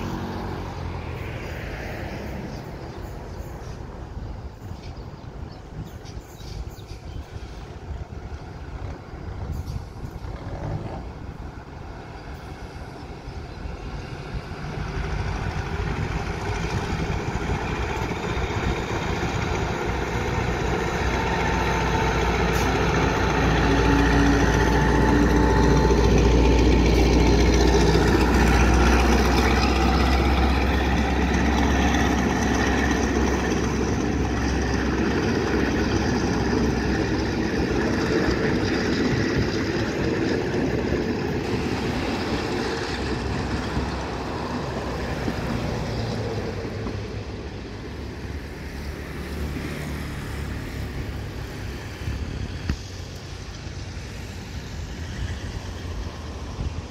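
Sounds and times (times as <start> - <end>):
diesel locomotive engine: 0.0 - 56.9
train coaches running past: 0.0 - 56.9.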